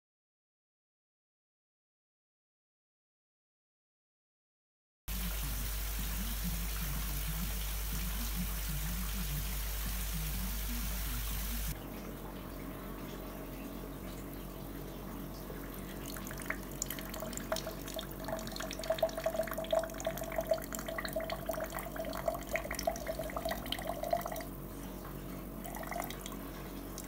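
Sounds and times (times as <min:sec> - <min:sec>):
water drops pattering: 0:05.2 - 0:27.0.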